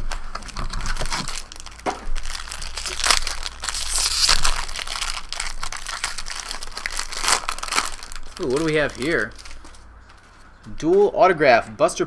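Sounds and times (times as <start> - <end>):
foil wrapping crinkling: 0.0 - 10.4.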